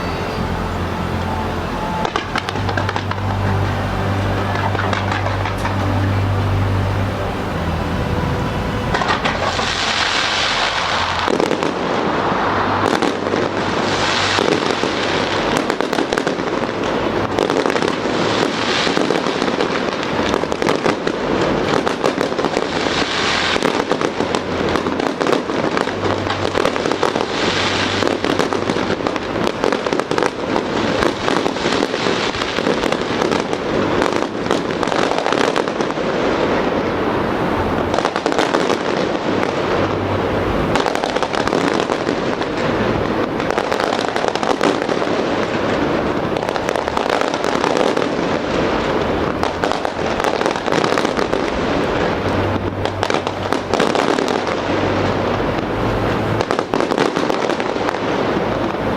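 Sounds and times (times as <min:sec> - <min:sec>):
fireworks crackling and popping: 0:00.0 - 0:58.9
fireworks hissing rushes: 0:00.0 - 0:58.9.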